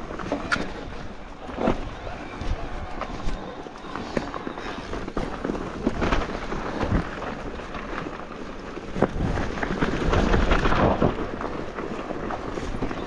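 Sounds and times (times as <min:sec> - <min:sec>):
bike knocks and rattles: 0:00.0 - 0:13.0
bike tyres crunching over rocks: 0:00.0 - 0:13.0
wind rumble on microphone: 0:00.0 - 0:13.0.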